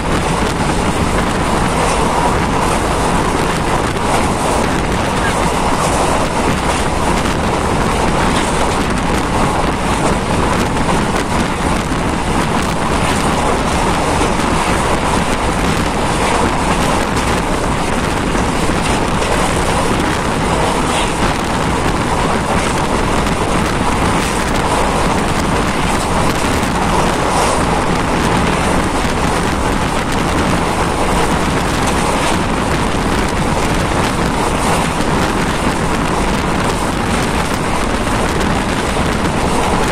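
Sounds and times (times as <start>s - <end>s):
moving vehicle running noise: 0.0s - 39.9s
wind rushing: 0.0s - 39.9s.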